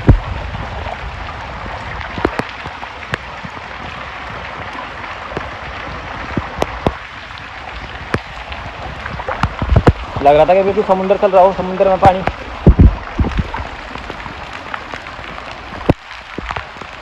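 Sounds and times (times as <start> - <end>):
heavy rain: 0.0 - 17.0
raindrops tapping nearby: 0.0 - 17.0.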